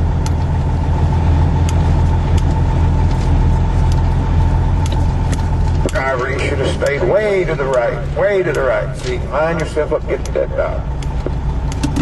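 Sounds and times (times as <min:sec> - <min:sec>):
road noise: 0:00.0 - 0:12.0
thin steady whine: 0:00.0 - 0:12.0
vehicle engine rumble: 0:00.0 - 0:12.0.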